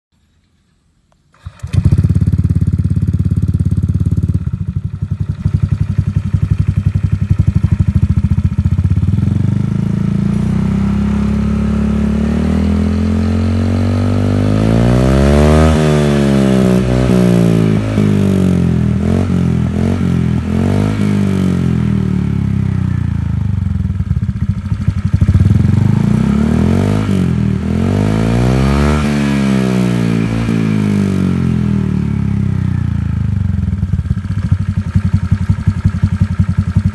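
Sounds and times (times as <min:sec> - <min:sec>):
scooter engine revving: 0:01.4 - 0:36.9.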